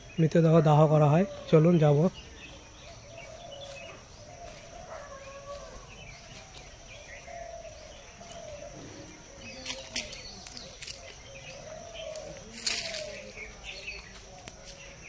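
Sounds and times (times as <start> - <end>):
birds chirping: 0.0 - 15.0
steady high-pitched whine: 0.0 - 15.0.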